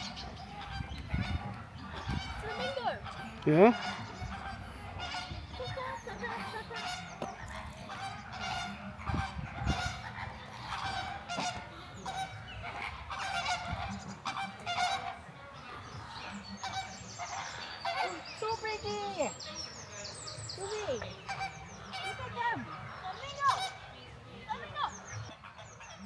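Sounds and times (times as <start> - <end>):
flamingos honking: 0.0 - 26.0.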